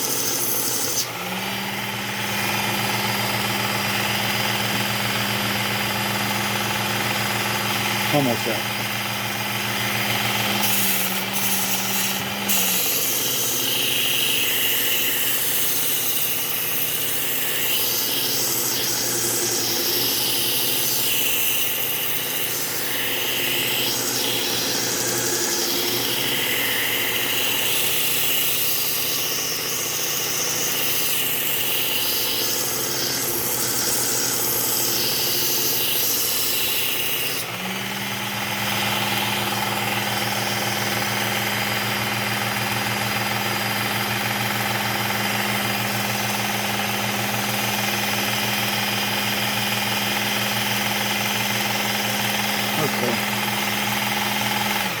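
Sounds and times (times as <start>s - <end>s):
belt sharpener motor humming: 0.0s - 55.0s
blade grinding on belt: 0.0s - 55.0s.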